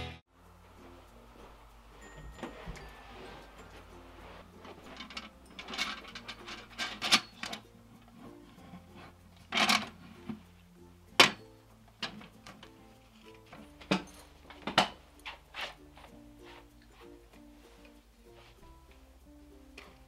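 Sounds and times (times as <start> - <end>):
light background music: 0.0 - 20.0.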